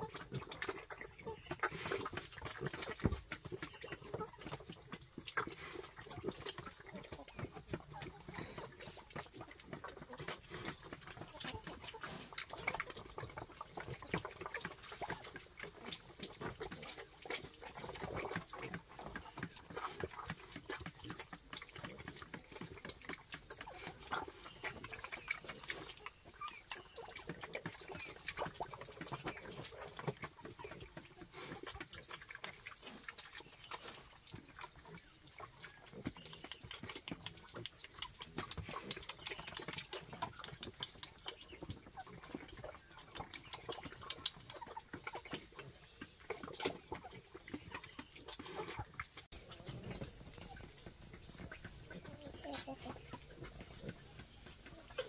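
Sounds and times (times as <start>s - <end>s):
piglets chewing: 0.0s - 55.0s
soft pig grunts: 0.0s - 55.0s.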